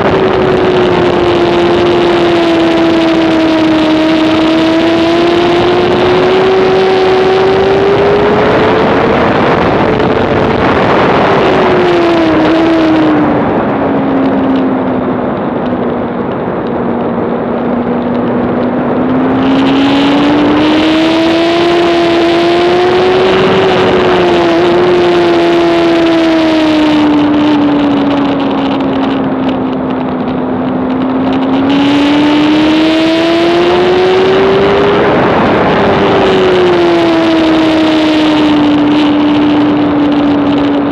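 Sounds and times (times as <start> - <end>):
motorcycle engine running hard: 0.0 - 40.9.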